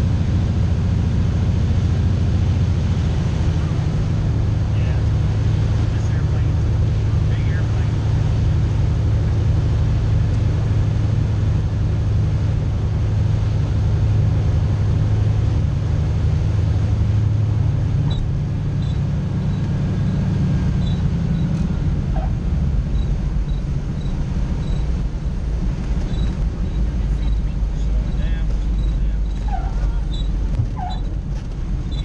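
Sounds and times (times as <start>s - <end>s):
propeller plane engine droning: 0.0s - 32.0s.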